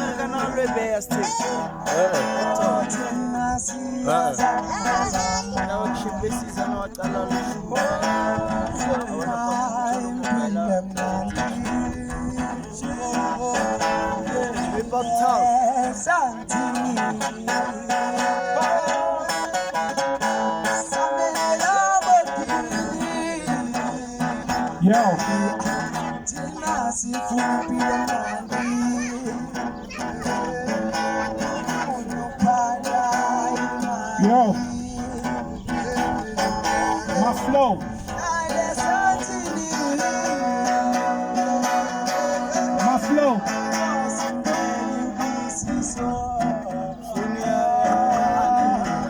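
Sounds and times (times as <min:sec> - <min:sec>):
guitar music: 0:00.0 - 0:49.0
person singing: 0:00.0 - 0:49.0.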